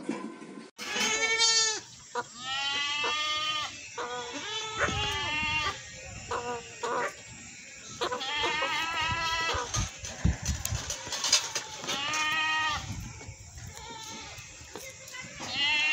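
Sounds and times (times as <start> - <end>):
goat bleating: 0.8 - 7.1, 7.8 - 12.9, 13.6 - 15.9.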